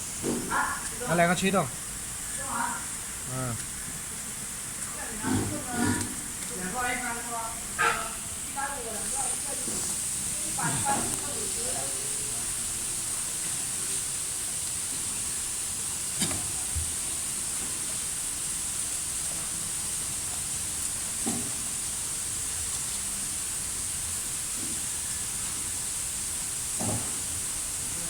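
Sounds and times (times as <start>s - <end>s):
steady high-pitched hiss: 0.0s - 28.0s.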